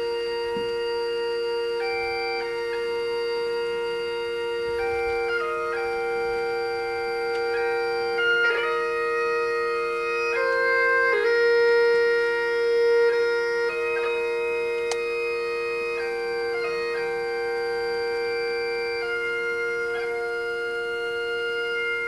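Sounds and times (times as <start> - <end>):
bagpipe drones: 0.0 - 22.0
bagpipe melody: 0.0 - 22.0.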